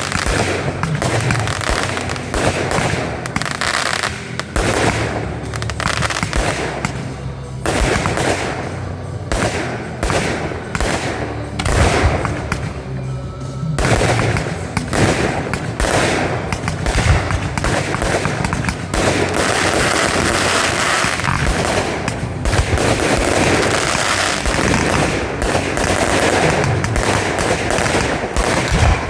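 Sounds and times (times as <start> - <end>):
fireworks bangs and crackling: 0.0 - 29.0
music: 0.0 - 29.0.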